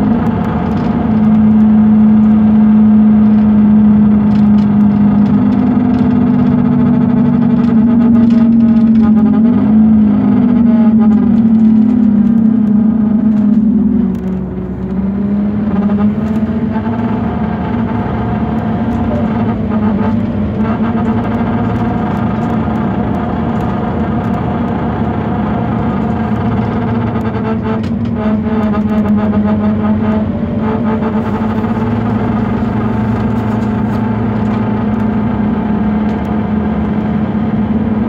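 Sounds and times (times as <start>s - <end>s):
bus droning hum: 0.0s - 38.0s.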